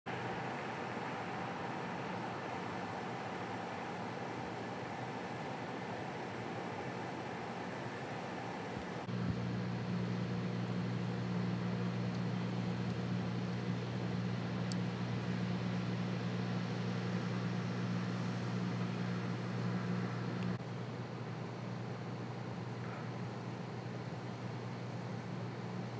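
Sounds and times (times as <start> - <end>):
low electrical hum: 0.1 - 25.9.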